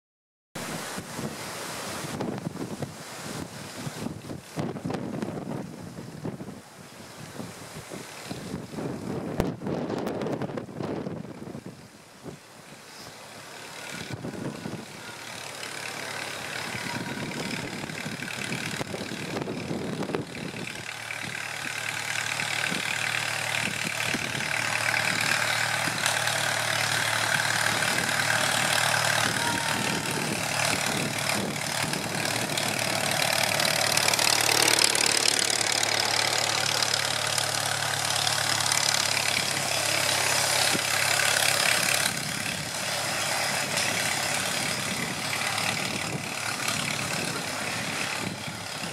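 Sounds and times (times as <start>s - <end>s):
tractor engine running: 0.6s - 48.9s.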